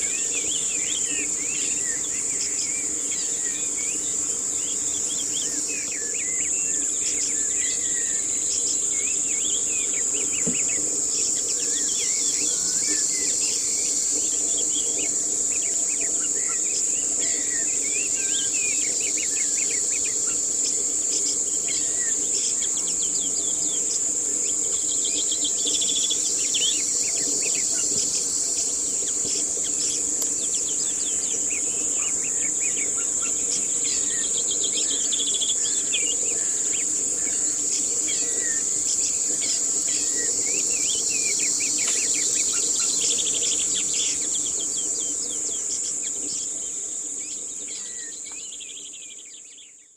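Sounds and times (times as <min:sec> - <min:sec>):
birds chirping: 0:00.0 - 0:49.9
insects droning: 0:00.0 - 0:49.9.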